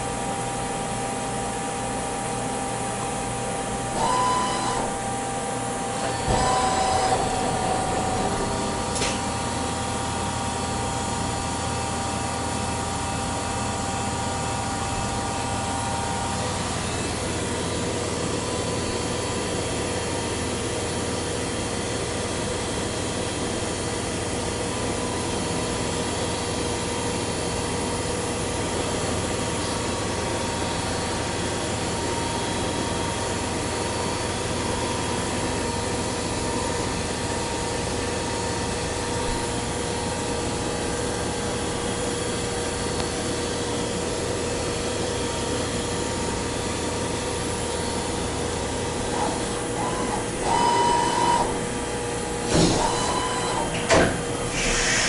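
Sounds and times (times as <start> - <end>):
metal lathe machining: 0.1 - 55.0.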